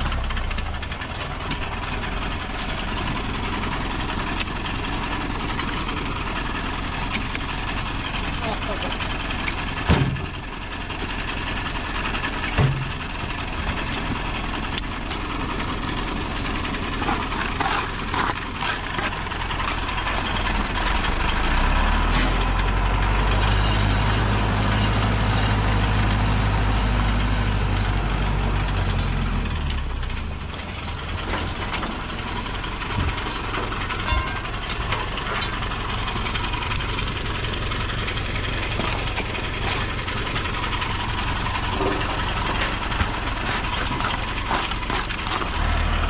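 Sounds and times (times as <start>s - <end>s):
engine running: 0.0s - 46.0s.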